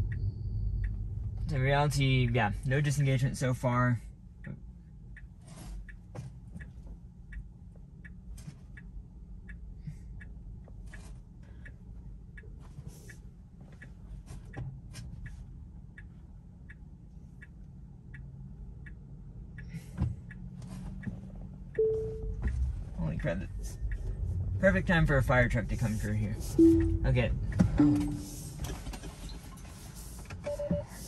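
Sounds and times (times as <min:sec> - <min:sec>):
car road rumble: 0:00.0 - 0:31.0
turn signal ticking: 0:00.0 - 0:31.0.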